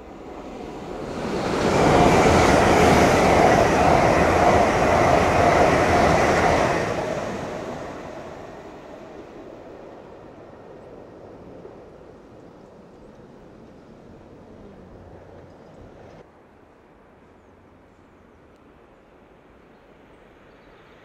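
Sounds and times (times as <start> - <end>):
train passing at speed: 0.0 - 17.8.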